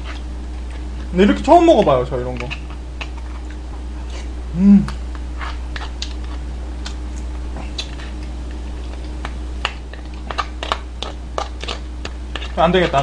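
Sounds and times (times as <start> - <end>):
steady low hum: 0.0 - 13.0
wet chewing mouth clicks: 1.8 - 13.0.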